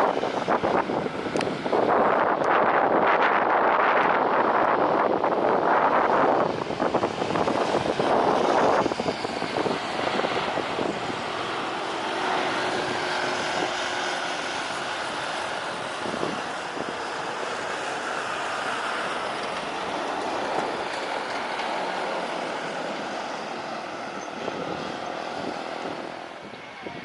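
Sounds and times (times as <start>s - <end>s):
jet engines rushing and whining: 0.0s - 27.0s
wind buffeting microphone: 0.0s - 27.0s.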